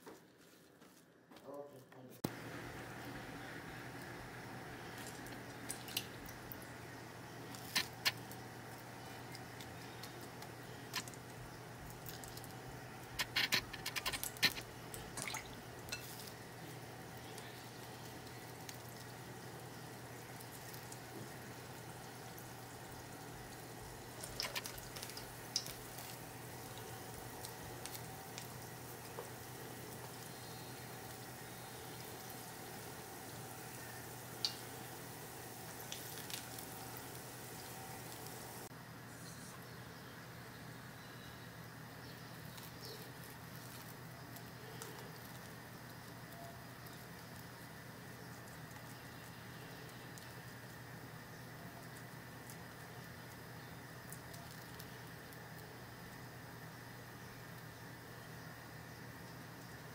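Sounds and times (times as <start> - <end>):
oil crackling and popping: 2.2 - 38.7, 42.1 - 58.1
fritters deep-frying in oil: 2.3 - 59.9.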